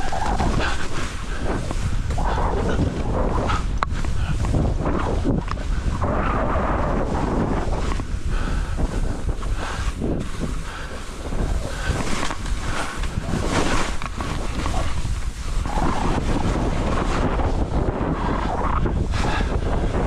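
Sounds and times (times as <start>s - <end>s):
skis hissing through snow: 0.0s - 20.0s
wind buffeting microphone: 0.0s - 20.0s.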